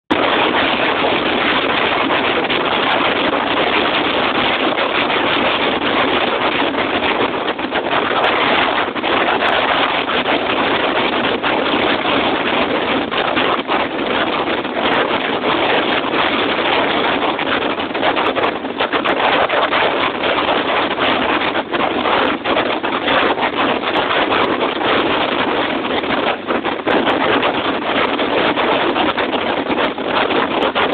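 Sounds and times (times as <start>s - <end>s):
wind buffeting microphone: 0.1s - 30.9s.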